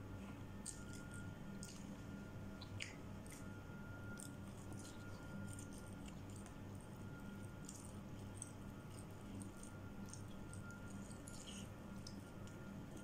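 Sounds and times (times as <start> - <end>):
faint steady hum: 0.0 - 13.0
wet chewing mouth clicks: 0.6 - 3.5, 4.1 - 6.9, 7.6 - 13.0.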